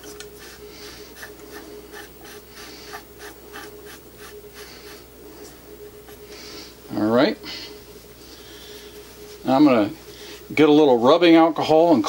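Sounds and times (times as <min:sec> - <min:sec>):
cloth rubbing on metal: 0:00.0 - 0:06.7, 0:07.8 - 0:11.4
faint steady hum: 0:00.0 - 0:12.0.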